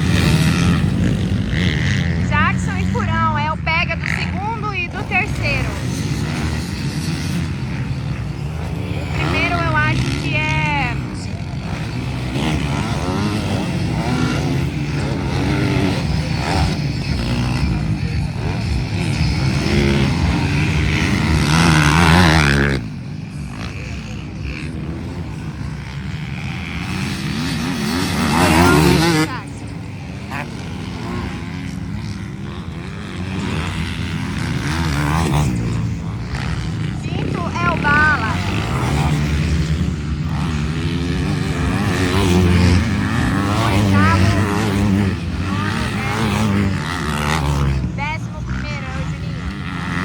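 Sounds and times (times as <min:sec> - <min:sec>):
motorcycle engines revving: 0:00.0 - 0:50.0.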